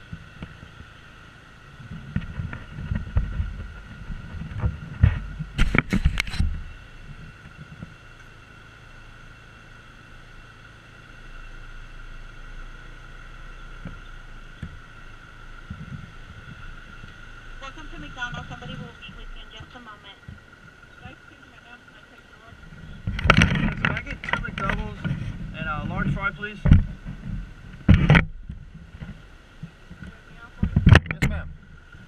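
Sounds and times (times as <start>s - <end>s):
engine rumble with sharp knocks: 0.0s - 32.0s.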